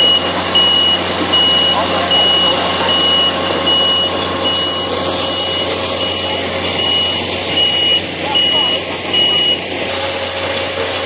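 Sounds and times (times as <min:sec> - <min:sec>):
reversing alarm beeping: 0:00.0 - 0:09.8
vehicle engine running: 0:00.0 - 0:11.0.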